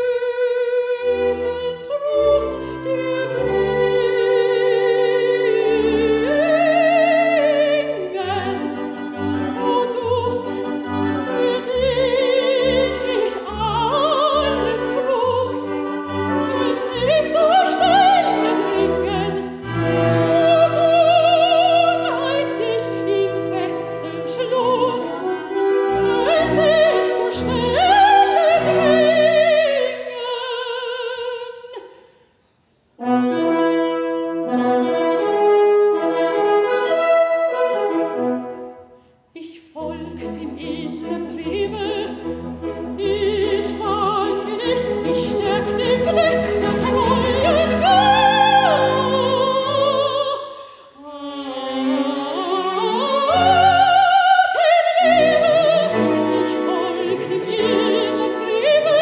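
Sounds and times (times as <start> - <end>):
bowed strings: 0.0 - 30.4, 39.8 - 50.4, 51.5 - 59.0
woman singing classical with vibrato: 0.0 - 32.2, 34.0 - 59.0.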